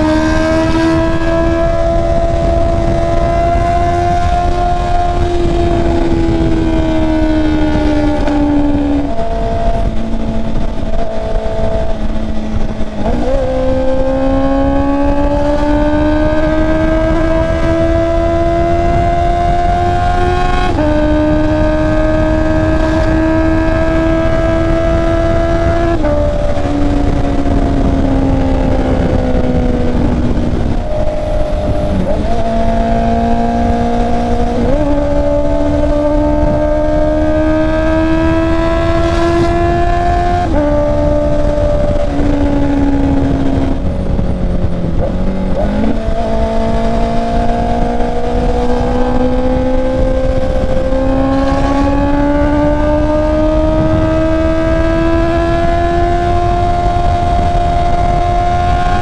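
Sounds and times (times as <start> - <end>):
motorcycle engine under load: 0.0 - 59.0
wind rush on microphone: 0.0 - 59.0.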